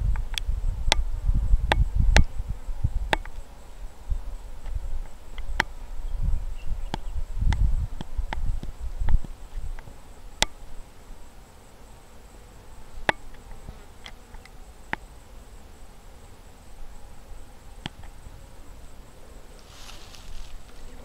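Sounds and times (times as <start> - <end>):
bees buzzing: 0.5 - 21.0.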